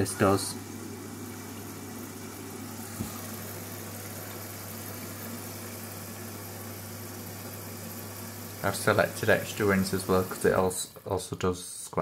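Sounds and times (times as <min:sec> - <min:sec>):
washing machine humming: 0:00.0 - 0:11.6.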